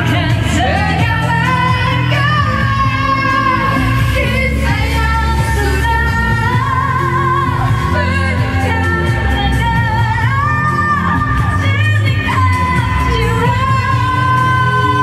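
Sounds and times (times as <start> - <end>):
backing music: 0.0 - 15.0
pop song singing: 0.0 - 15.0.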